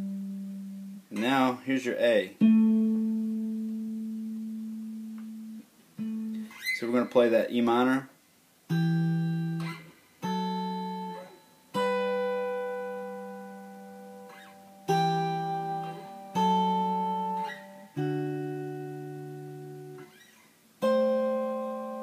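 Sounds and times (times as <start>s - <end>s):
fingerpicked guitar chords: 0.0s - 7.3s, 8.7s - 22.0s.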